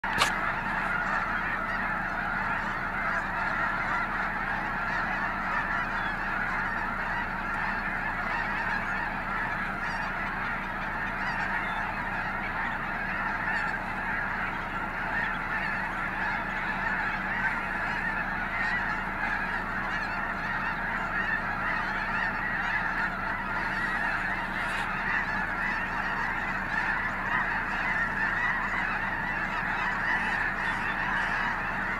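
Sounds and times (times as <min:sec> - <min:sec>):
flock of geese honking: 0:00.0 - 0:31.9.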